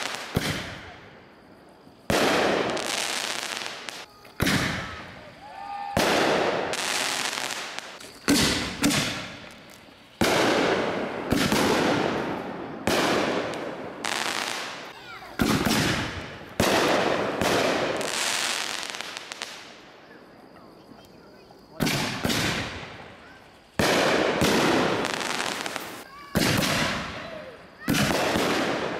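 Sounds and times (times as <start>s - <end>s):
fireworks bangs: 0.0s - 28.9s
fireworks crackling: 0.0s - 28.9s.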